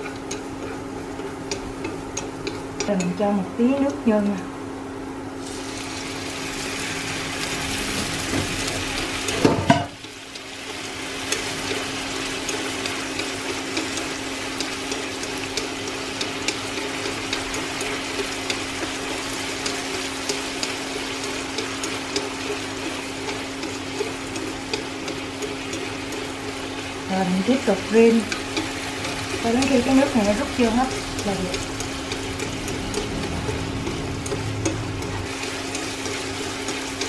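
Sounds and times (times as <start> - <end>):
utensil clicking against pan: 0.0 - 3.2, 8.8 - 37.0
sauce sizzling and bubbling in pan: 0.0 - 37.0.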